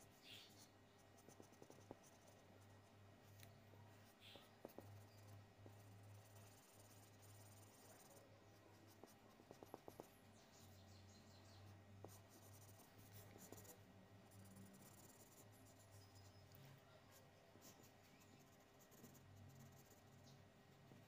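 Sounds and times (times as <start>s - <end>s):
highlighter scratching on paper: 0.0s - 20.2s.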